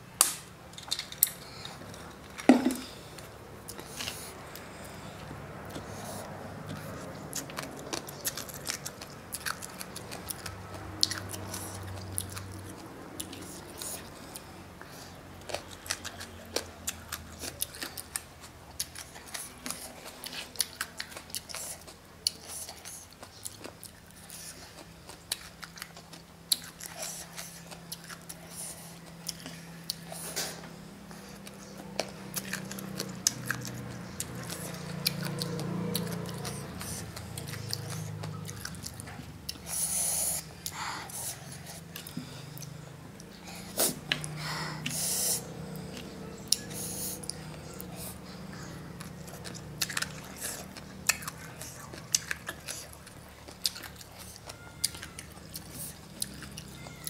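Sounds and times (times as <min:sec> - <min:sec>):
chewing and crunching: 0:00.2 - 0:57.0.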